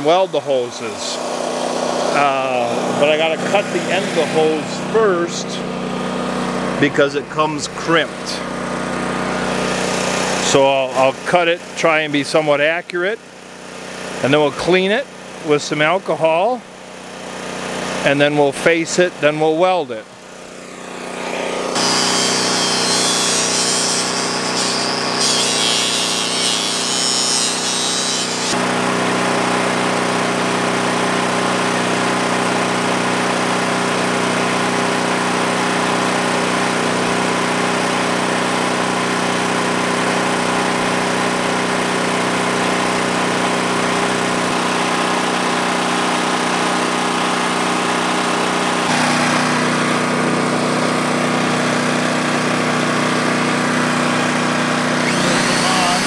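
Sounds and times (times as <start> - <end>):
power tool cutting pipe: 0.0 - 15.4, 19.5 - 56.0
portable generator humming: 0.0 - 15.8, 16.6 - 56.0
steady motor running: 0.0 - 56.0.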